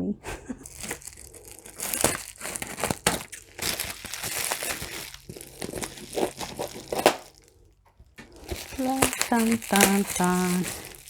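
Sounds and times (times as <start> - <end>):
packaging crinkling and rustling: 0.5 - 11.0.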